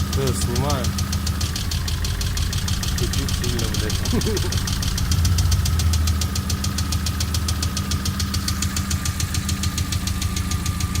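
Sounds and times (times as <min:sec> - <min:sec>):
car engine idling: 0:00.0 - 0:11.0
metallic ticking knock: 0:00.1 - 0:10.9.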